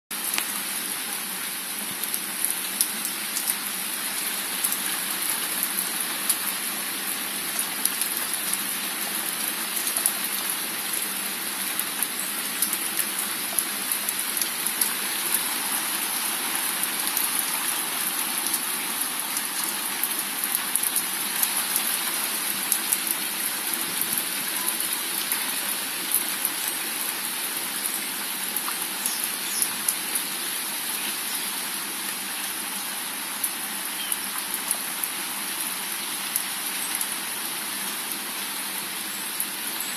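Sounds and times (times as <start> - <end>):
heavy rain on patio: 0.1 - 39.9
raindrops ticking and splashing: 0.1 - 39.9.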